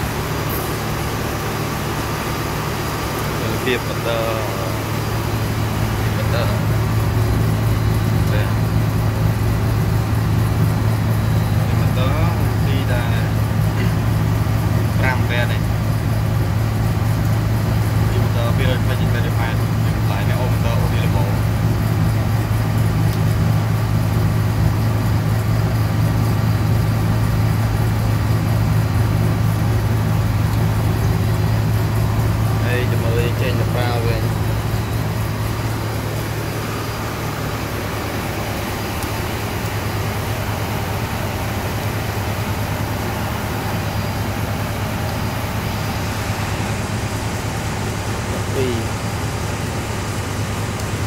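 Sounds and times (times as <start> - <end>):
machine drone with low hum: 0.0 - 51.0.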